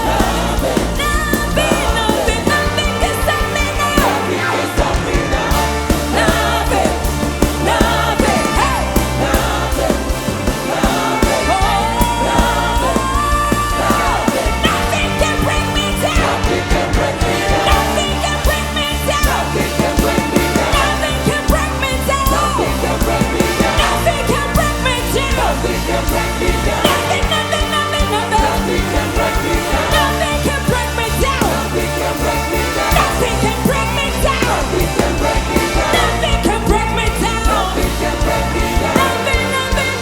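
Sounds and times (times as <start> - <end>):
live worship music with singing: 0.0 - 40.0.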